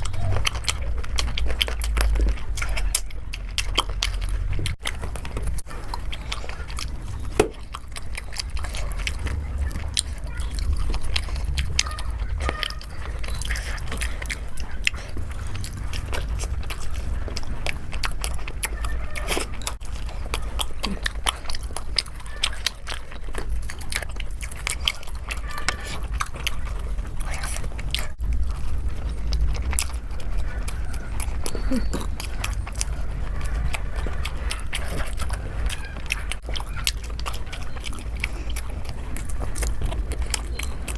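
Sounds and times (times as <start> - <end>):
person biting and chewing food: 0.0 - 40.9
steady low hum: 0.0 - 40.9.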